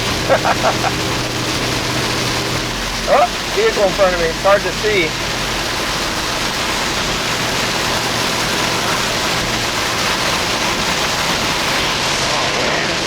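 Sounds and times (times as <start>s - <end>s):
heavy rain beating on a vehicle: 0.0s - 13.0s
vehicle road noise: 0.0s - 13.0s.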